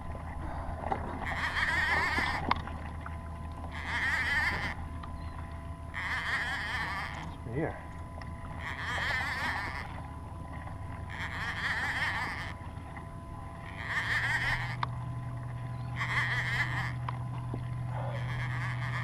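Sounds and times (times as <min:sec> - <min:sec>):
low steady hum: 0:00.0 - 0:19.0
fishing reel whirring: 0:01.2 - 0:02.6, 0:03.6 - 0:19.0.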